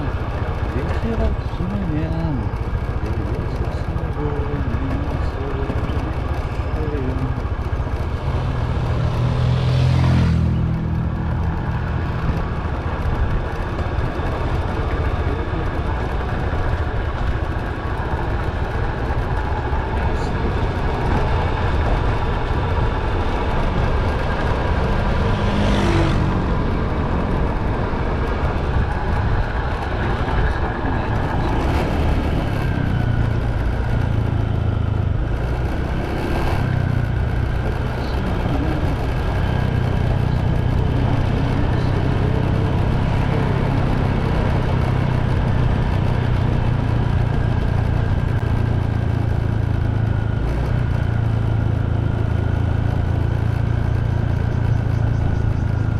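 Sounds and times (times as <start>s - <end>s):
motorbike engine running: 0.0s - 55.9s
wind and road noise: 0.0s - 55.9s.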